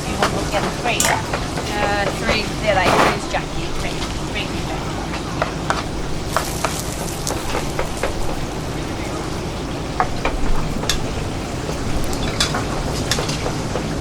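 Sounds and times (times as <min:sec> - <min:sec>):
utensils clinking on pans: 0:00.0 - 0:09.4, 0:10.0 - 0:14.0
food sizzling: 0:00.0 - 0:14.0.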